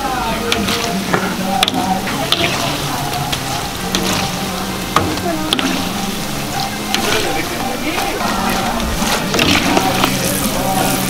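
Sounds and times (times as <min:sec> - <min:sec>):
oil bubbling and sizzling: 0:00.0 - 0:11.0
mesh strainer stirring: 0:00.4 - 0:11.0.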